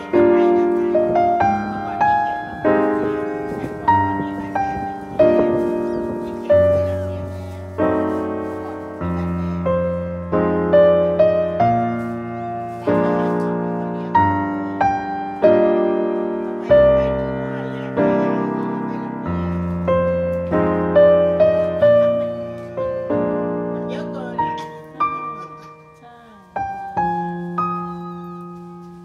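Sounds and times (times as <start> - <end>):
gentle piano music: 0.0 - 29.0.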